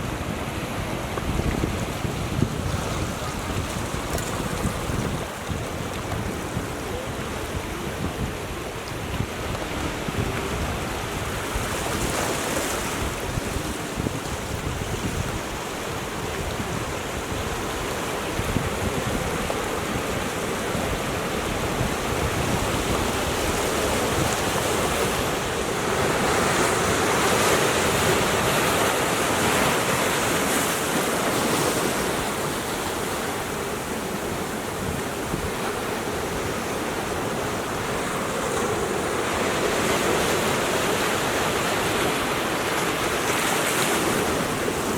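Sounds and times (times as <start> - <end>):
surf washing against rocks: 0.0 - 44.9
wind rumbling on microphone: 0.0 - 44.9.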